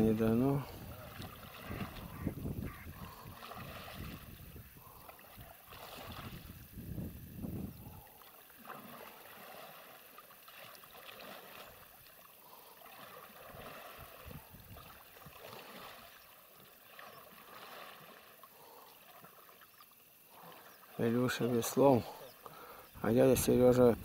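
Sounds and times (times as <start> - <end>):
oars splashing in water: 0.0 - 23.8.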